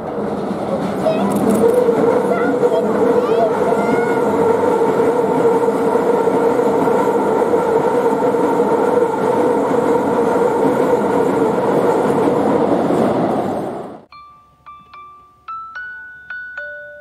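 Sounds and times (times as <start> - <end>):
electric train hum: 0.0 - 14.1
train wheels rumbling on rails: 0.0 - 14.1.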